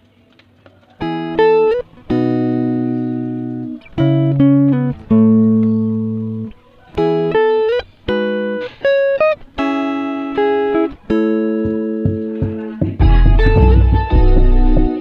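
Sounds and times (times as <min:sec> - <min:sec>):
plucked guitar chords: 0:01.0 - 0:15.0.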